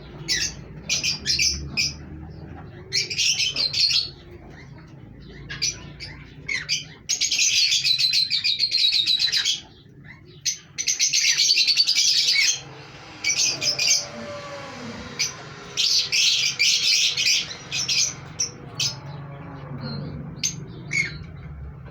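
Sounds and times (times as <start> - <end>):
parrots chattering: 0.1 - 21.4.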